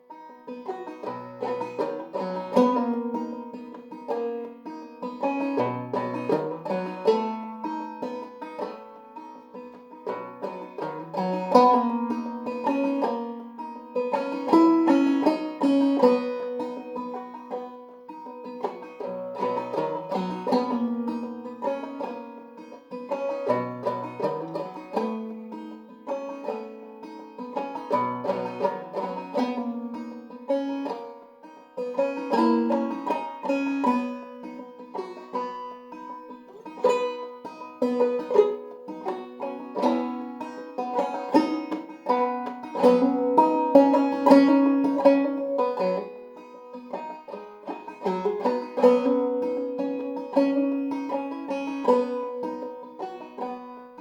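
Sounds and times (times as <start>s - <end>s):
banjo playing: 0.0s - 54.0s.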